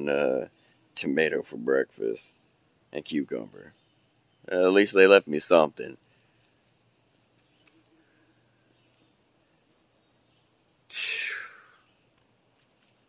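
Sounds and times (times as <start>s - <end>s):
crickets chirping chorus: 0.0s - 13.0s.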